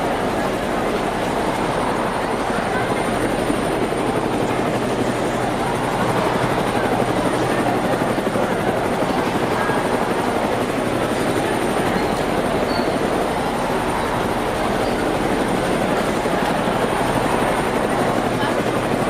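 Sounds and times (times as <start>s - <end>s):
helicopter in flight: 0.0s - 19.0s.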